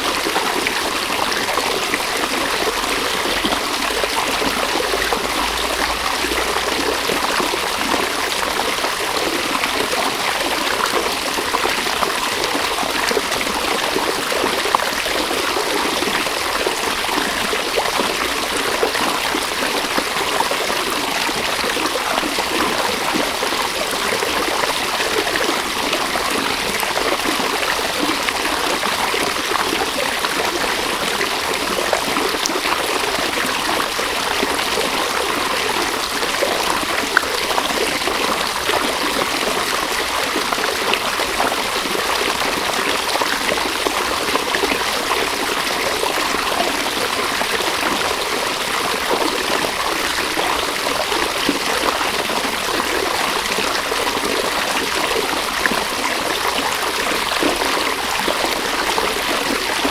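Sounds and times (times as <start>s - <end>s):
river water trickling over stones: 0.0s - 59.9s.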